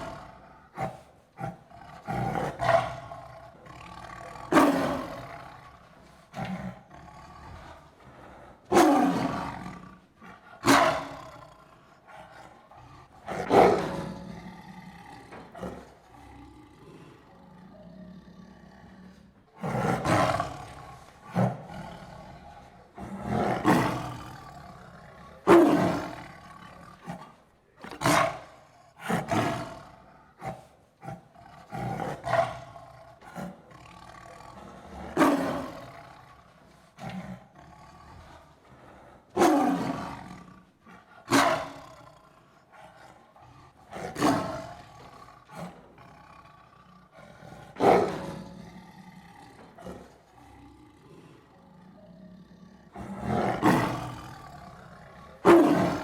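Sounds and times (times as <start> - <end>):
tiger snarling and growling: 0.0 - 56.0.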